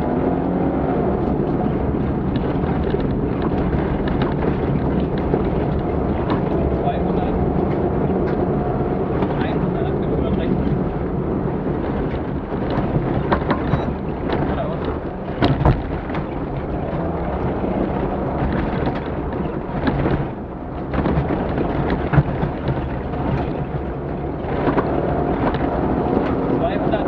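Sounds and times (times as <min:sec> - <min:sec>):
vehicle engine and tyres rumbling: 0:00.0 - 0:27.0
vehicle knocks and jolts: 0:00.0 - 0:27.0
wind on microphone: 0:00.0 - 0:27.0.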